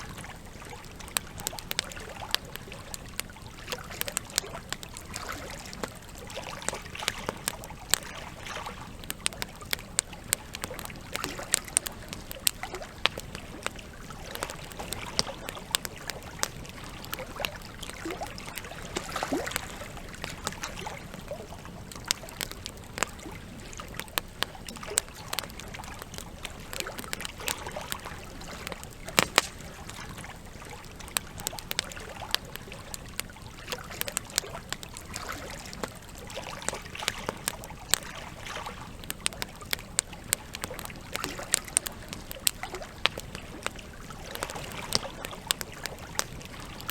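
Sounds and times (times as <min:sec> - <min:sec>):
campfire crackling and snapping: 0:00.0 - 0:46.9
water trickling: 0:00.0 - 0:46.9.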